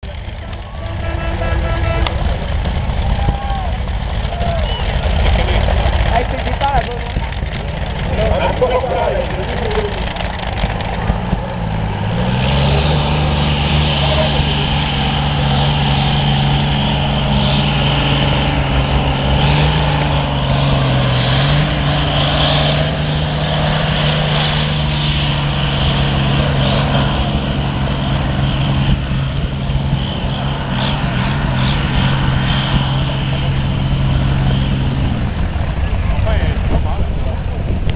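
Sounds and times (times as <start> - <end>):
tractor engine revving: 0.0 - 37.9.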